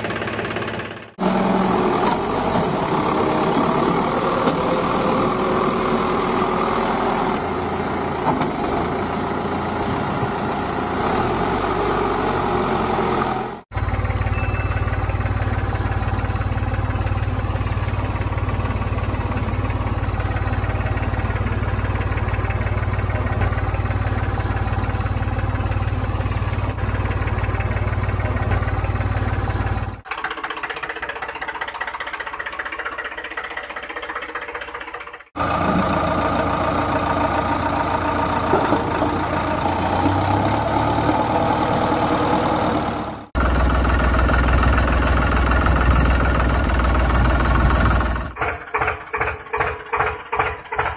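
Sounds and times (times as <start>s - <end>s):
tractor engine knocking drone: 0.0s - 50.9s
thinner quieter engine: 1.2s - 30.0s, 35.3s - 48.4s.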